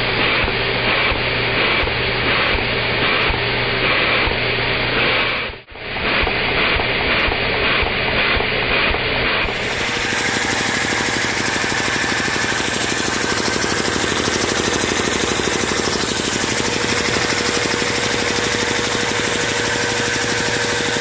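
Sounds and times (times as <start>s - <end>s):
small engine running: 0.0s - 21.0s
steady hum: 0.0s - 21.0s.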